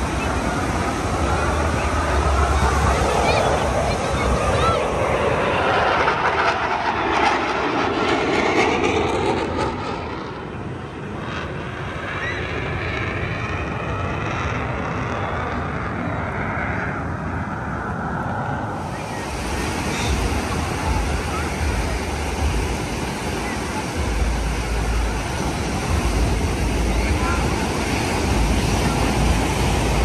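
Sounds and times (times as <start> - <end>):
airplane engine drone: 0.0 - 30.0.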